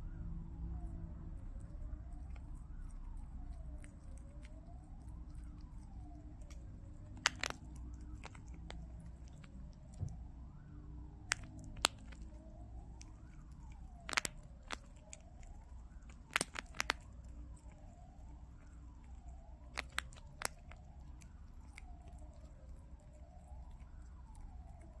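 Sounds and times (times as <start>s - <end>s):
faint siren-like wail: 0.0s - 25.0s
prairie dog crunching biscuit: 0.8s - 25.0s.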